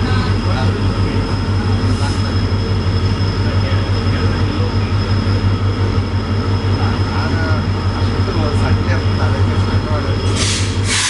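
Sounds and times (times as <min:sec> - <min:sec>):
locomotive engine drone: 0:00.0 - 0:11.0.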